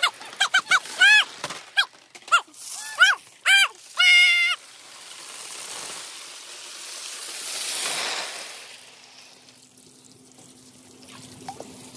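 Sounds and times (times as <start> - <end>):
marbles and water splashing into trough: 0.0 - 11.9.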